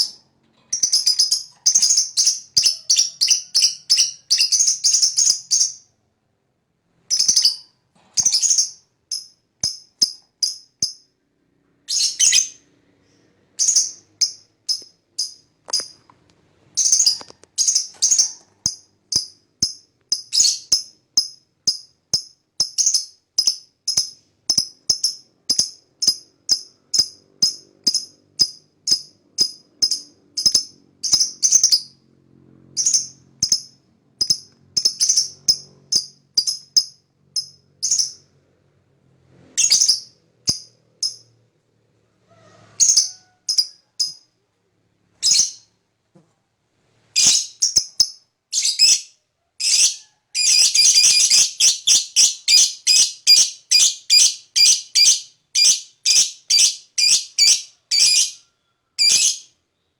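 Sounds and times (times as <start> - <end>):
lovebird chirping: 0.0 - 5.9, 7.1 - 11.1, 11.9 - 16.0, 16.8 - 21.8, 22.6 - 32.0, 32.8 - 38.3, 39.6 - 41.3, 42.8 - 44.3, 45.2 - 45.7, 47.2 - 59.9.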